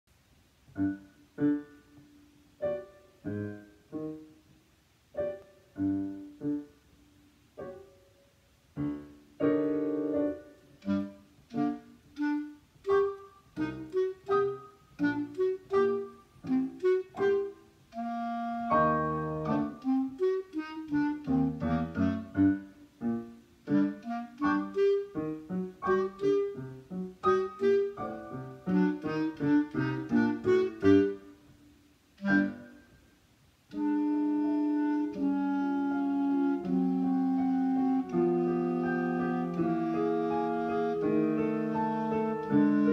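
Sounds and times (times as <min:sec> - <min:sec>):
piano: 0:00.1 - 0:42.9
clarinet: 0:00.7 - 0:04.4, 0:08.8 - 0:42.9.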